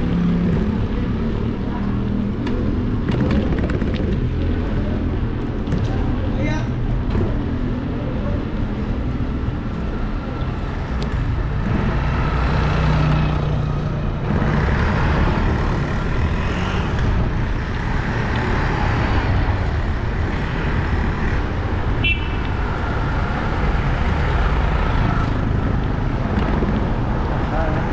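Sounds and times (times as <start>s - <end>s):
cars passing on road: 0.0s - 27.9s.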